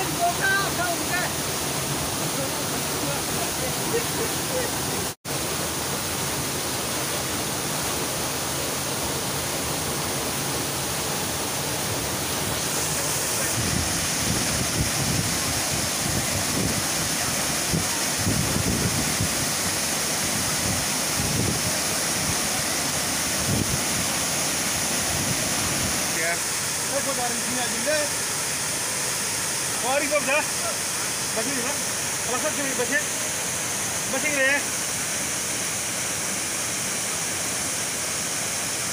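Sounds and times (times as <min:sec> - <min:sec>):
waterfall rushing into pool: 0:00.0 - 0:38.9.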